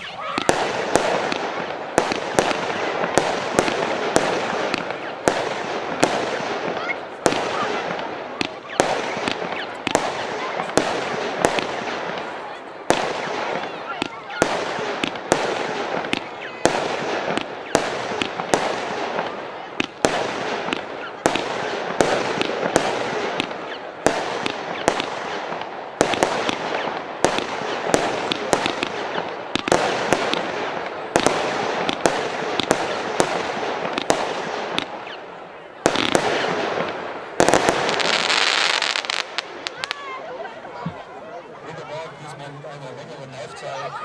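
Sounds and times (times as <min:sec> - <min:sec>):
firework crackling: 0:00.0 - 0:41.1
firework bangs: 0:00.0 - 0:41.2.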